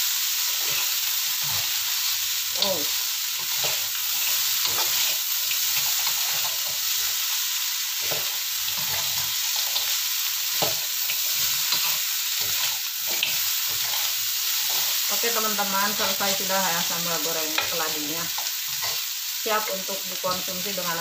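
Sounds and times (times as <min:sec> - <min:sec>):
food sizzling in a wok: 0:00.0 - 0:21.0
spatula scraping and knocking wok: 0:00.4 - 0:19.2.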